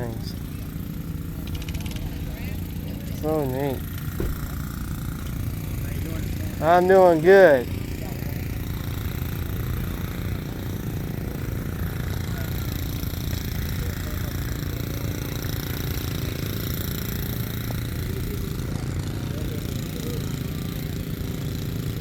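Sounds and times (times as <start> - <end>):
engine idling: 0.0 - 22.0
faint voices: 0.0 - 22.0.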